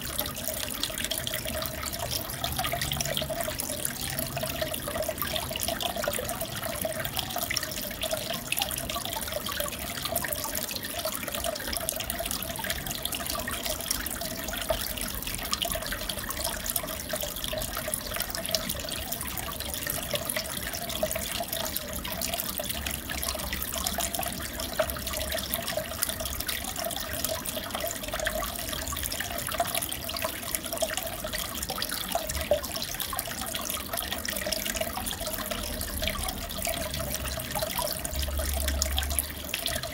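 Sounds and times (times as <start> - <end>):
aquarium water splashing: 0.0 - 39.9.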